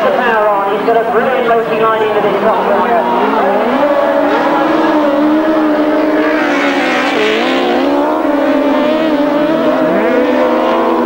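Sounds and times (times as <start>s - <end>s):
racing motorcycle engines: 0.0s - 11.0s.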